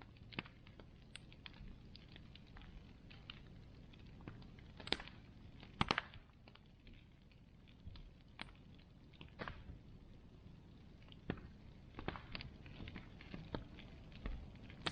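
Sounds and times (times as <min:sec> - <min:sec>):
wood bonfire crackling: 0:00.0 - 0:14.9.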